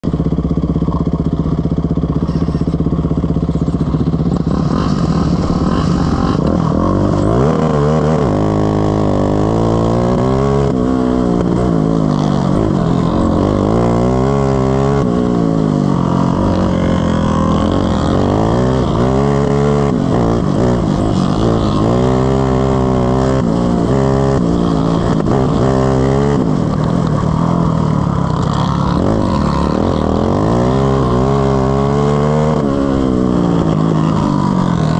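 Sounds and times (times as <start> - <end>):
ride-on mower engine revving: 0.2 - 34.9.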